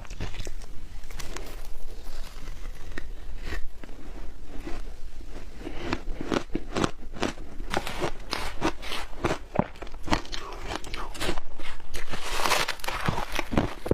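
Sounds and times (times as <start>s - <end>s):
chewing crunchy ice: 0.0s - 13.9s.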